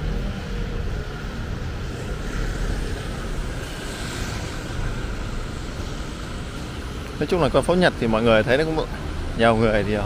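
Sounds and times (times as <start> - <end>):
traffic on wet road: 0.0 - 10.0.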